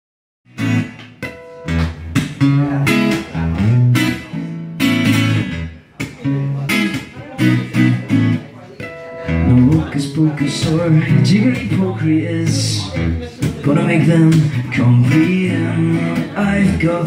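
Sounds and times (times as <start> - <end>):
acoustic guitar chords: 0.5 - 17.0.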